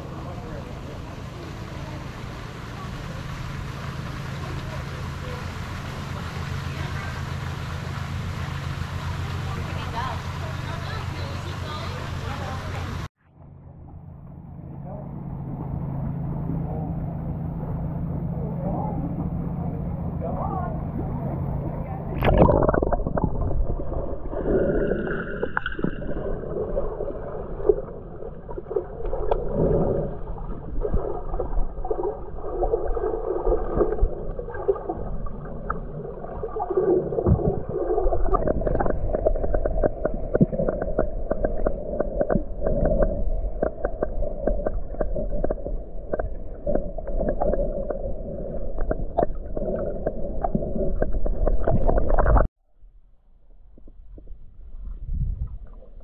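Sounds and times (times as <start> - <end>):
underwater rumble and gurgling: 0.0 - 56.0.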